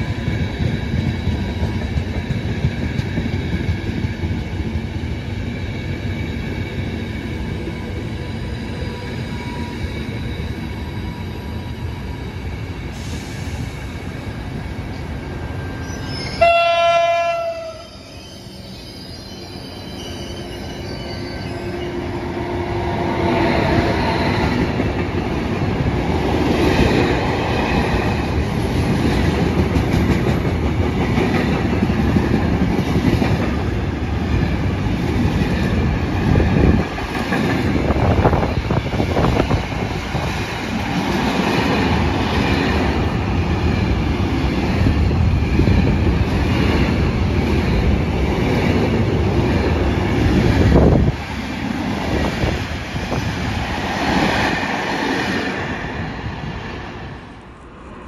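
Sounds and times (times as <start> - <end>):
freight train rumble: 0.0 - 18.1, 20.4 - 58.0.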